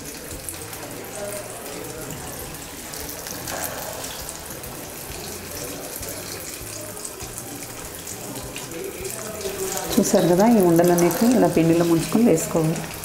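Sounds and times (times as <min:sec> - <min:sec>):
batter sizzling in hot oil: 0:00.0 - 0:13.0.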